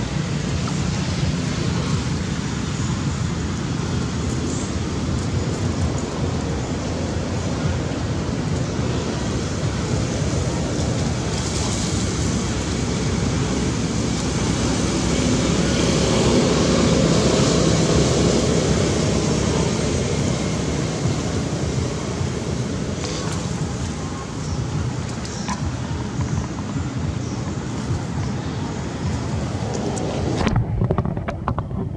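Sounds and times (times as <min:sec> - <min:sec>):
rushing outdoor background noise: 0:00.0 - 0:31.9.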